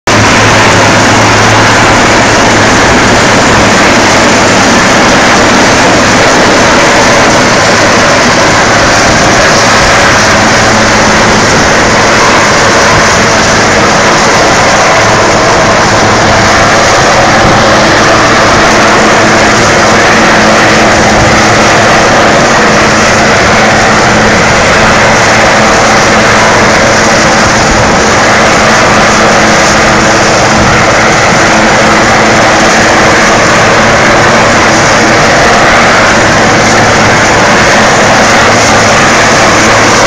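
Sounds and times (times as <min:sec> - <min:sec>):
helicopter hovering overhead: 0:00.0 - 0:40.0.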